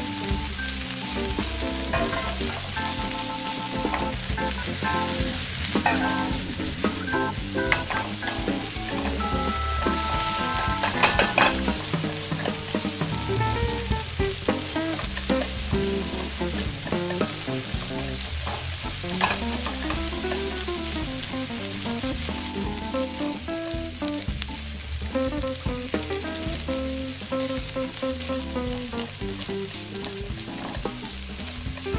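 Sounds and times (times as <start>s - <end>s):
egg sizzling in a pan: 0.0s - 31.9s.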